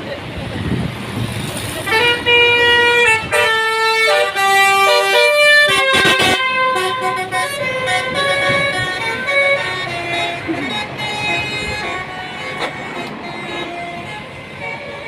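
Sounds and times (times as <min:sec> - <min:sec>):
musical bus horn tune: 0:01.9 - 0:15.0.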